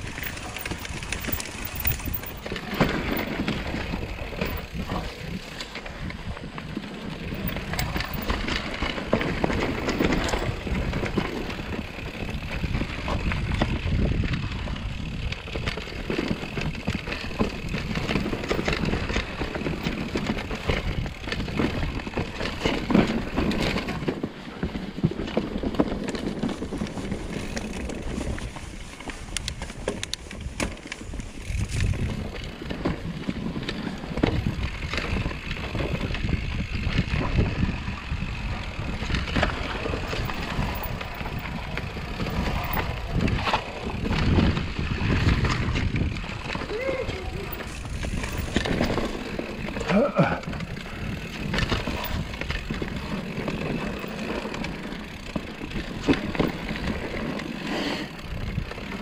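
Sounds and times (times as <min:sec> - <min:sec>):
bike knocking and rattling: 0:00.0 - 0:59.0
bike tyres crunching over dirt: 0:00.0 - 0:59.0.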